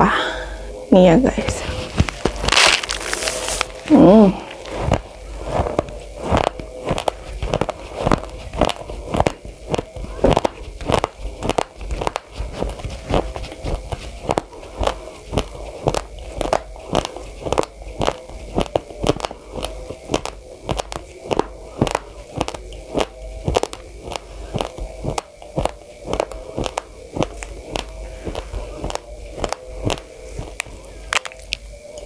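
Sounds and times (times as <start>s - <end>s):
dry crunches of chewing rice: 1.8s - 31.8s.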